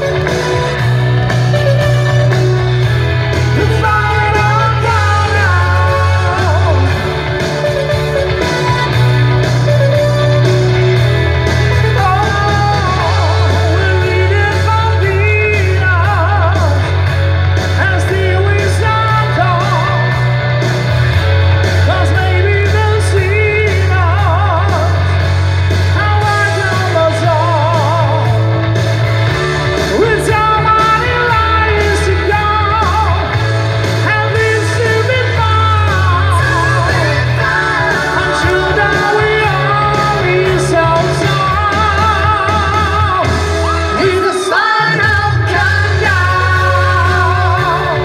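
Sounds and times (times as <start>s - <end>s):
bass line: 0.0s - 48.0s
electric guitar: 0.0s - 48.0s
singer with wide vibrato: 0.0s - 48.0s.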